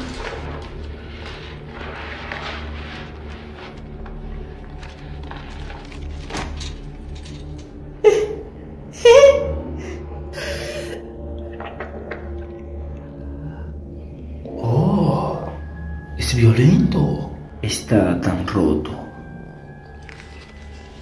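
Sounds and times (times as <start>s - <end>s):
low steady drone: 0.0s - 21.0s.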